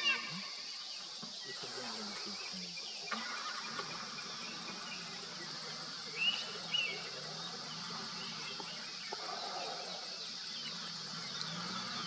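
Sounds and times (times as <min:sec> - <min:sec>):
bird chirps: 0:00.0 - 0:12.0
insects buzzing: 0:00.0 - 0:12.0.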